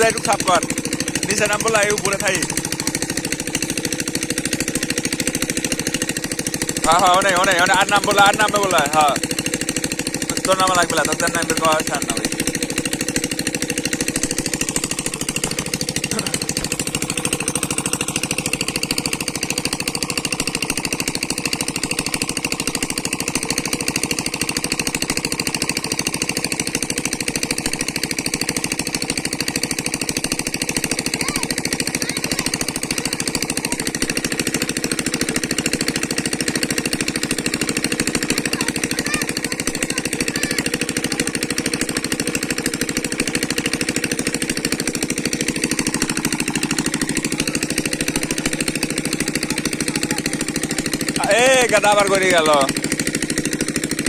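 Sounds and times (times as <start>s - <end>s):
small engine chugging: 0.0s - 54.0s.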